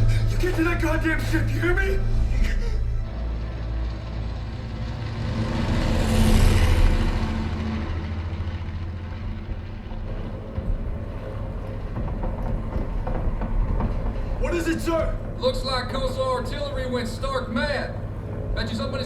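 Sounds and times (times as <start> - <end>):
aircraft engines rumbling drone: 0.0 - 19.0.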